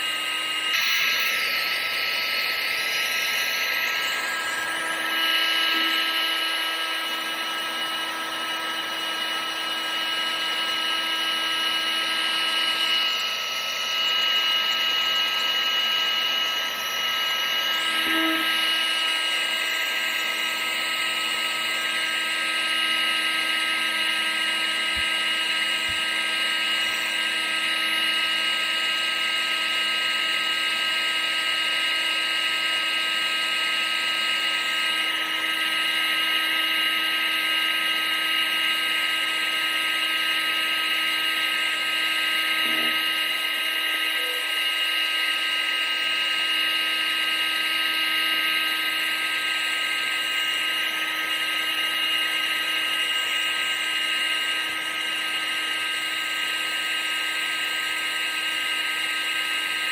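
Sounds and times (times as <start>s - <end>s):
appliance motor whining: 0.0s - 59.9s.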